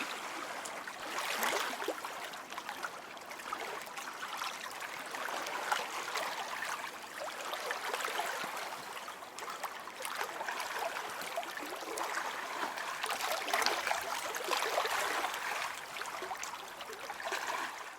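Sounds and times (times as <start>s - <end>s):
lake water lapping: 0.0s - 17.9s.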